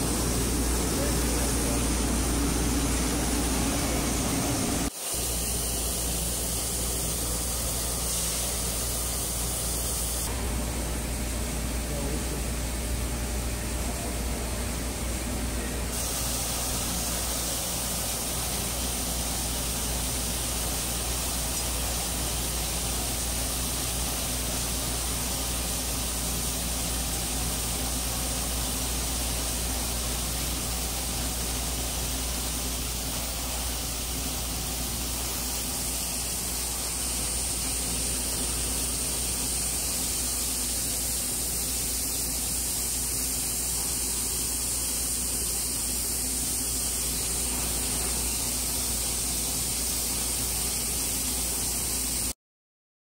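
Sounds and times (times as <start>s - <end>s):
low machine hum: 0.0s - 48.7s
deburring machine hissing: 0.0s - 52.4s.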